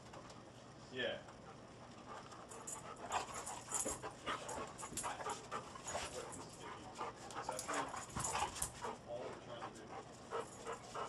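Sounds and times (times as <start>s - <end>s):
dogs breathing while tugging: 1.3s - 11.0s.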